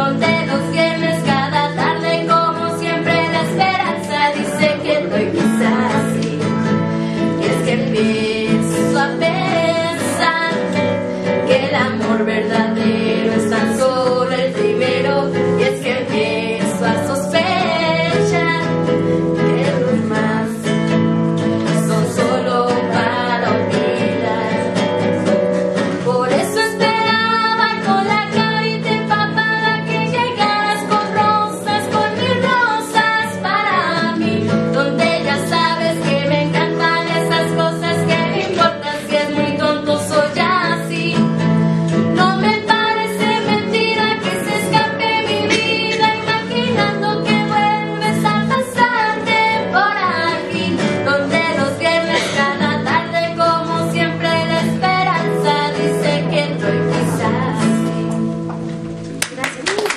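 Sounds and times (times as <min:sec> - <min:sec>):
women singing a pop ballad: 0:00.0 - 0:58.1
acoustic guitar: 0:00.0 - 0:59.9.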